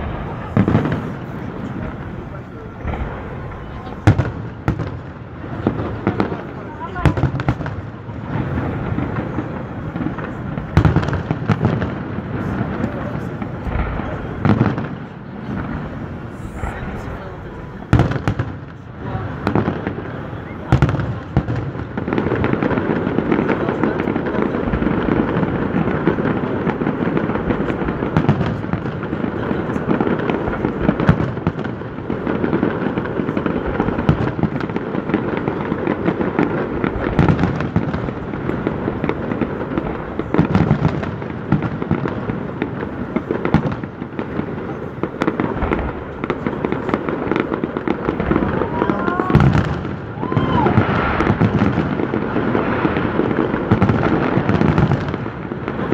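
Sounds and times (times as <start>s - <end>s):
fireworks bursting and crackling: 0.0s - 55.9s
sharp firework bangs: 0.0s - 55.9s.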